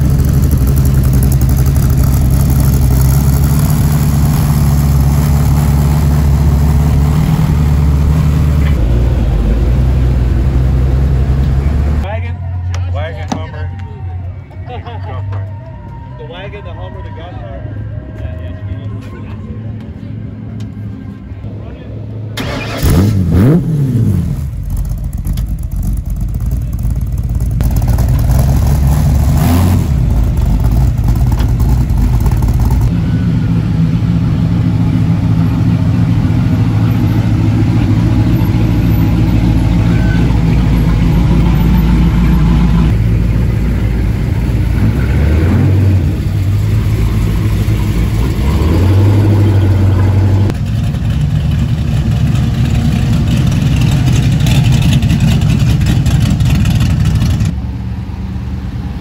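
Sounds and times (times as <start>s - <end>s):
car engine revving: 0.0s - 12.1s, 22.4s - 57.6s
car engines rolling slowly past: 0.0s - 22.9s, 24.2s - 59.0s.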